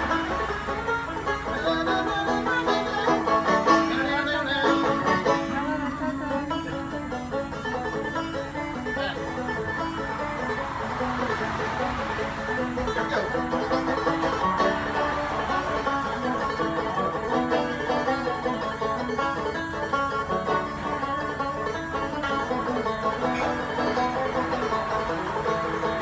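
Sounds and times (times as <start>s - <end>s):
banjo playing bluegrass: 0.0s - 26.0s.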